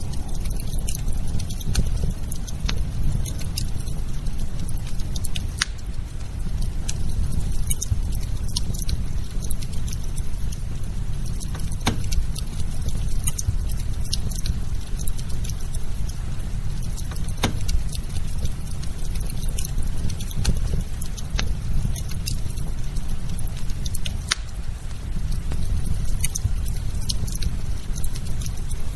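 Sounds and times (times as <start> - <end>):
firewood crackling and popping: 0.0 - 28.9
low fire rumble: 0.0 - 28.9.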